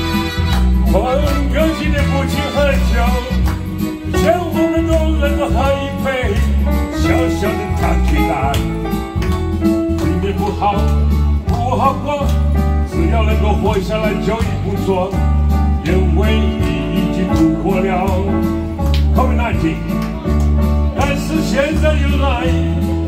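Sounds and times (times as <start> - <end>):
electronic keyboard song with beat: 0.0 - 23.0
man singing into a microphone: 0.8 - 9.0, 9.9 - 20.4, 21.0 - 23.0.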